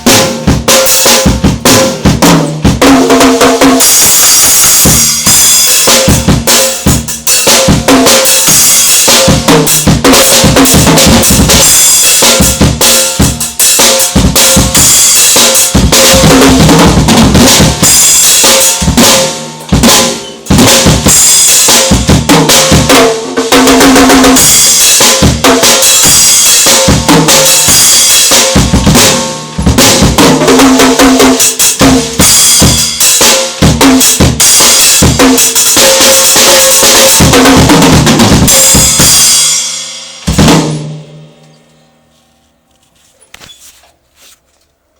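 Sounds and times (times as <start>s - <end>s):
drum kit playing loudly: 0.0s - 42.1s.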